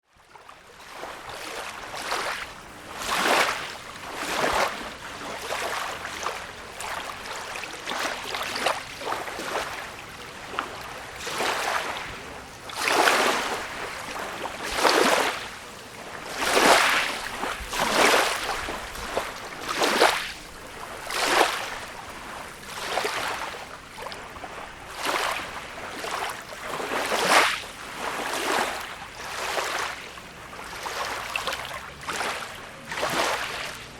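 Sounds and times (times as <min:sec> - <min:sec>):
small sea waves lapping: 0:00.1 - 0:33.9.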